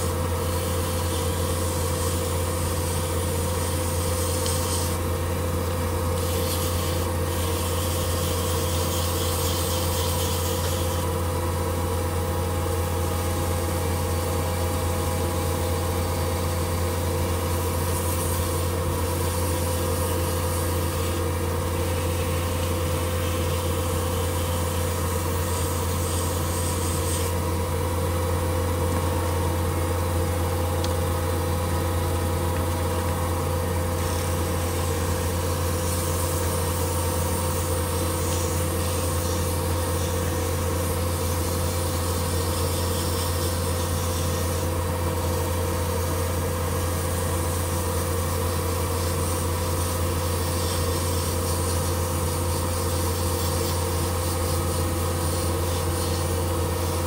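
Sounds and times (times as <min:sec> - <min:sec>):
abrasive paper hissing rub: 0:00.0 - 0:12.0, 0:13.1 - 0:27.8, 0:32.8 - 0:57.0.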